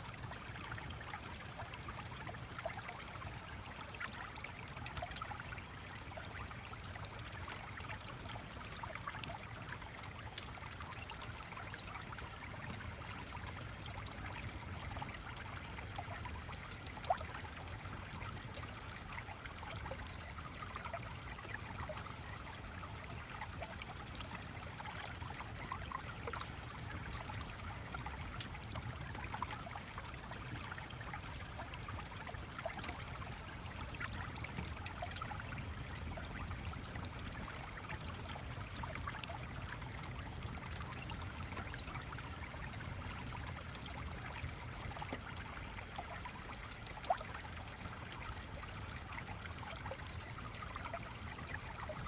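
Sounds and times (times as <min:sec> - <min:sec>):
stream trickling: 0:00.0 - 0:52.0.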